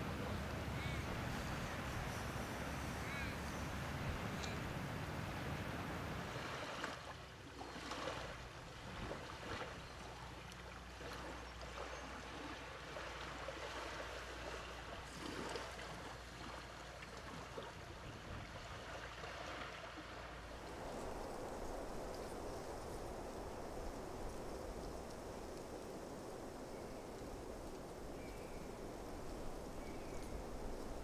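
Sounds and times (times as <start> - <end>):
small waves washing onto beach: 0.0 - 31.0.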